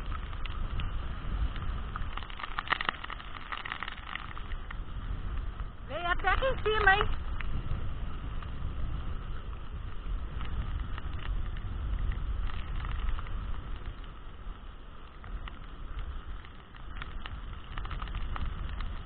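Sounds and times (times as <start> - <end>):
heavy rain hiss: 0.0 - 19.0
wind buffeting microphone: 0.0 - 19.0.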